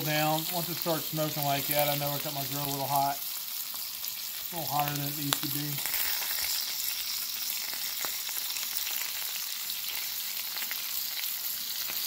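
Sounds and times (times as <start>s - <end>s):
meat sizzling on griddle: 0.0s - 12.0s.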